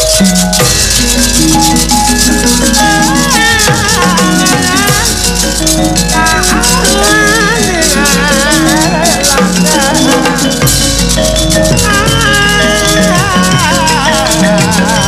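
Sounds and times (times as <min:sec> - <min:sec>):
gamelan music: 0:00.0 - 0:15.0
metallophones and drums: 0:00.0 - 0:15.0
rapid metallic clatter of plates: 0:00.0 - 0:15.0.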